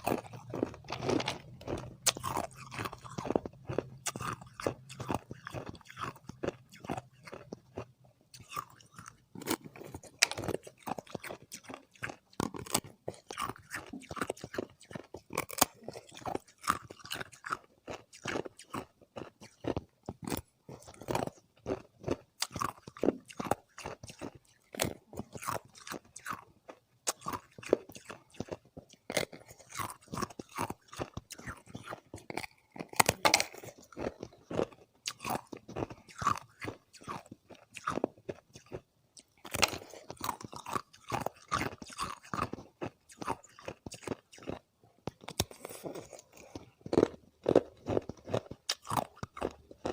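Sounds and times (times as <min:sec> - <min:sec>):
chewing ice crunches: 0:00.0 - 0:49.9.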